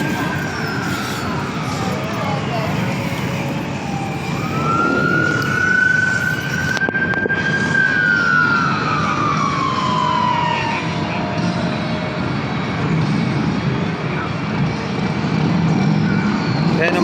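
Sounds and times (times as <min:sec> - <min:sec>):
emergency vehicle siren wailing: 0:00.0 - 0:14.7
street and traffic noise: 0:00.0 - 0:17.0.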